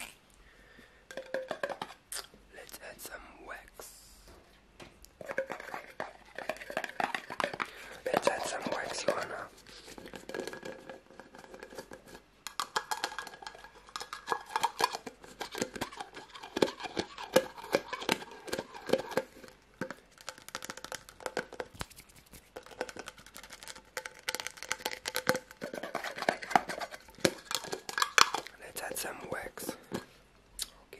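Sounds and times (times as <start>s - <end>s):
plastic jar lid clicking and scraping: 5.2s - 30.1s.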